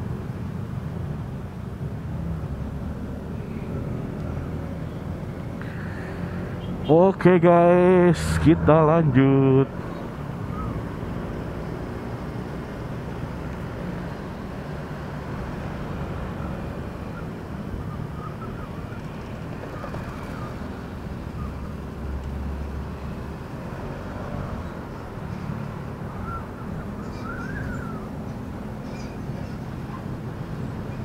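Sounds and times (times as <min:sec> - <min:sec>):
road noise: 0:00.0 - 0:31.0
vehicle engine: 0:00.0 - 0:31.0.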